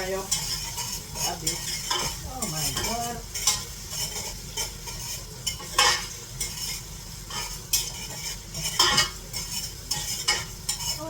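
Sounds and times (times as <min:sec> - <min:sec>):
food sizzling in a pan: 0:00.0 - 0:11.0
utensil scraping and knocking pan: 0:00.0 - 0:11.0.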